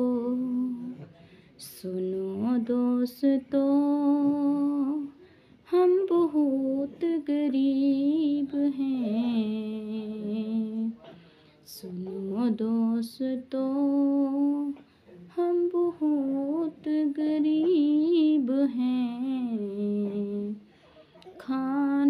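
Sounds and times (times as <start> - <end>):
woman singing: 0.0 - 11.0, 11.7 - 20.7, 21.3 - 22.0.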